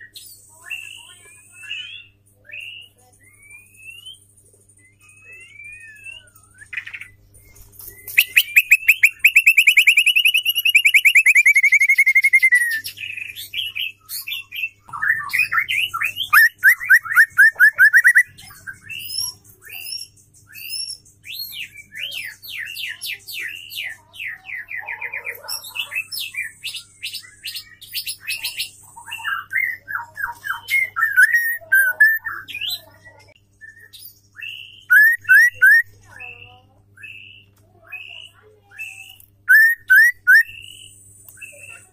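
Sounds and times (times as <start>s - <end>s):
bird singing trills and whistles: 0.0s - 41.9s.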